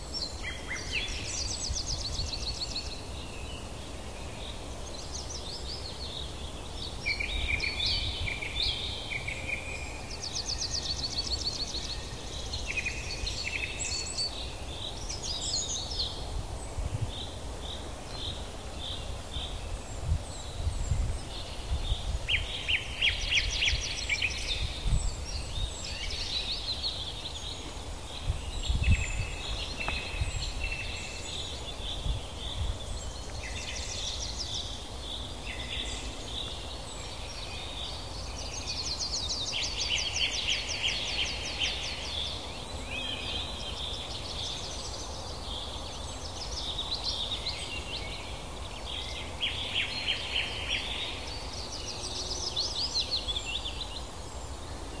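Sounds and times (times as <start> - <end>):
birds singing: 0.0 - 55.0.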